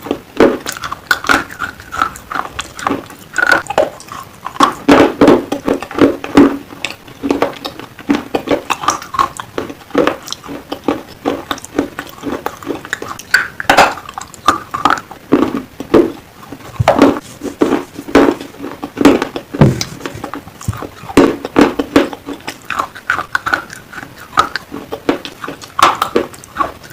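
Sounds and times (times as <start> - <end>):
slate pencils crunching when chewed: 0.0 - 26.9.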